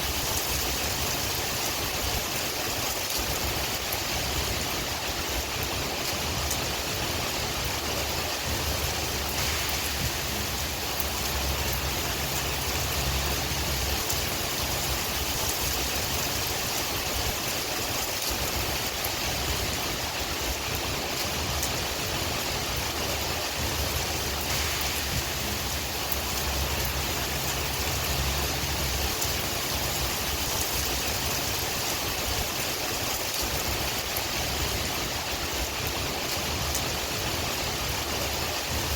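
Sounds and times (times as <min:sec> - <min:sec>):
low wind rumble: 0:00.0 - 0:38.9
steady rain hiss: 0:00.0 - 0:38.9.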